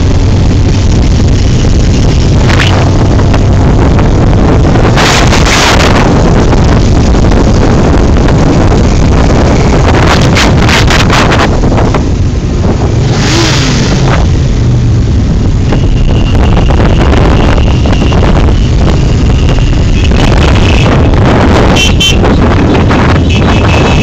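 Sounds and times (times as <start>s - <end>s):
motorcycle engines running: 0.0s - 24.0s
wind buffeting microphone: 0.0s - 24.0s.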